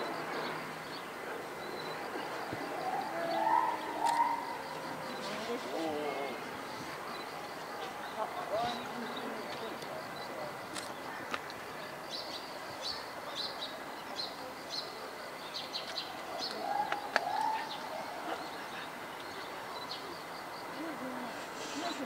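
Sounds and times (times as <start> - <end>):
small birds chirping: 0.0 - 22.0
steady background noise: 0.0 - 22.0.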